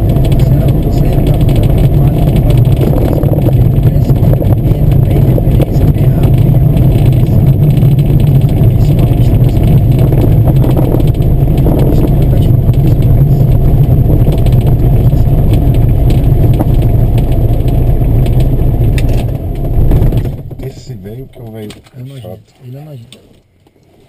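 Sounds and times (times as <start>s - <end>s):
propeller aircraft engine drone: 0.0s - 20.6s.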